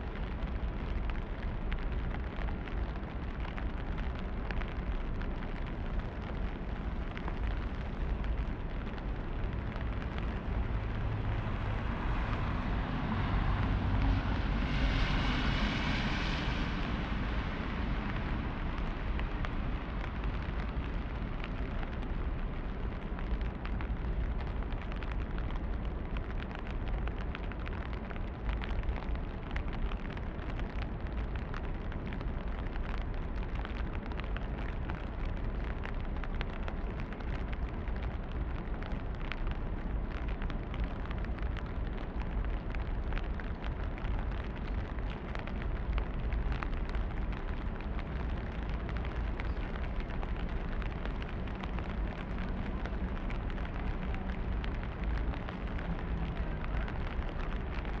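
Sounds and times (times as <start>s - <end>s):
rain pattering on street: 0.0s - 58.0s
low rumble: 0.1s - 58.0s.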